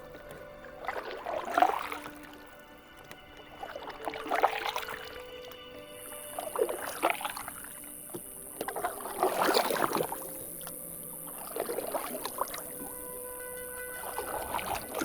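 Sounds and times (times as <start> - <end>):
paddles splashing in water: 0.0 - 15.0.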